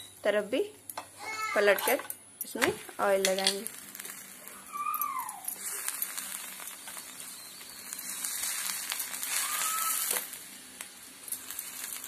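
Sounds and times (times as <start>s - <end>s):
oil sizzling and crackling: 0.9s - 12.0s.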